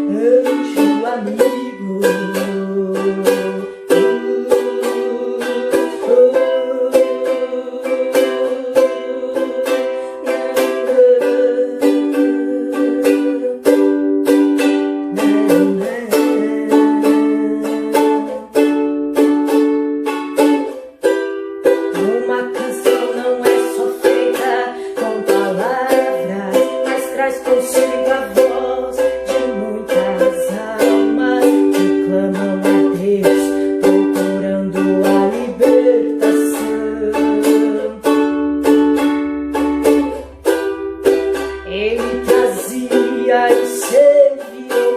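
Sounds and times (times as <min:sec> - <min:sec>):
ukulele strumming chords: 0:00.0 - 0:44.9.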